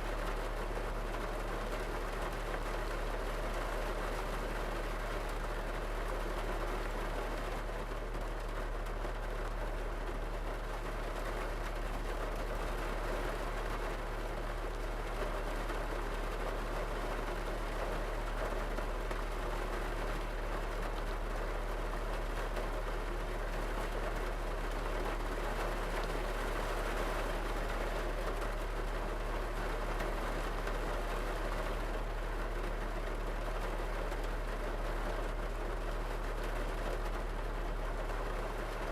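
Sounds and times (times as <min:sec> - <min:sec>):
rain drumming on car roof: 0:00.1 - 0:38.9.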